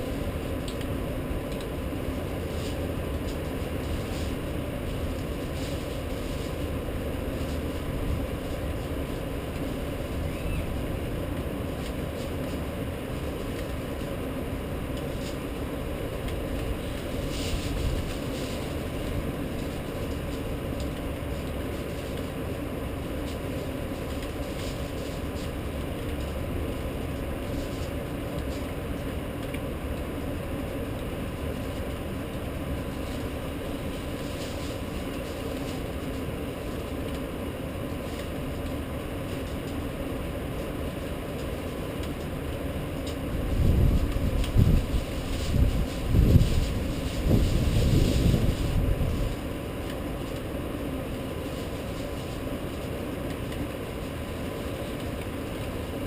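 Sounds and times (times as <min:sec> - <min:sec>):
faint steady hum: 0:00.0 - 0:56.0
rain and city rumble: 0:00.0 - 0:56.0.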